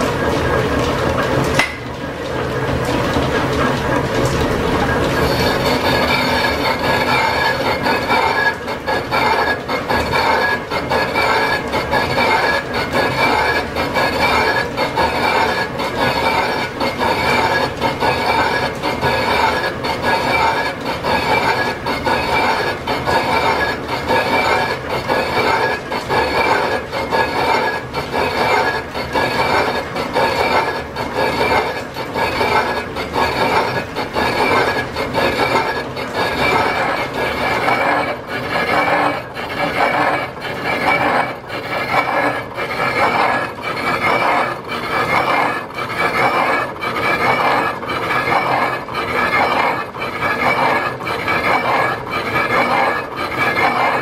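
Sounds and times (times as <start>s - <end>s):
lathe cutting with ringing whine: 3.4s - 54.0s.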